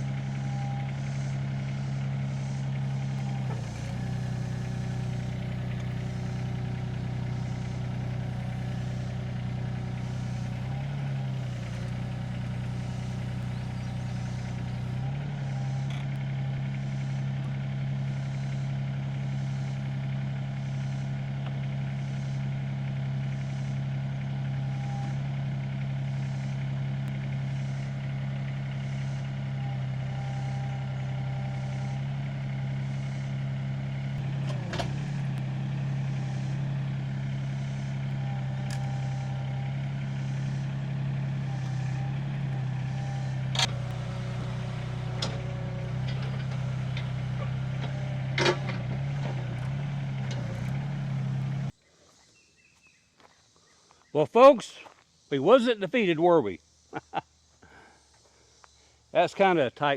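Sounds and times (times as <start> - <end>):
excavator diesel engine running: 0.0 - 51.8.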